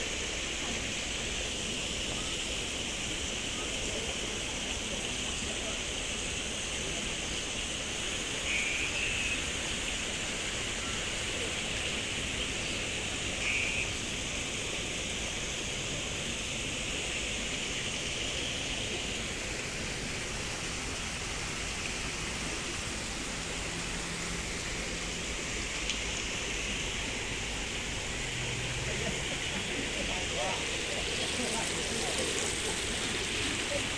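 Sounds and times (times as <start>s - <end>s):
running splashing water: 0.0s - 33.9s.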